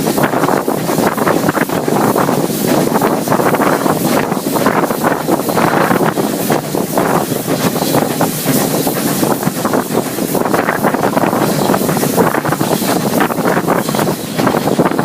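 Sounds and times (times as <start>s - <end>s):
moving train running noise: 0.0s - 15.0s
wind buffeting microphone: 0.0s - 15.0s.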